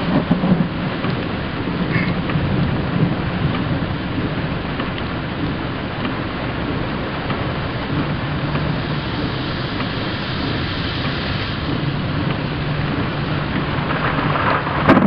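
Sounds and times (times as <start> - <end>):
low rumble: 0.0 - 15.0
steady rain: 0.0 - 15.0
thunderclap: 0.0 - 15.0.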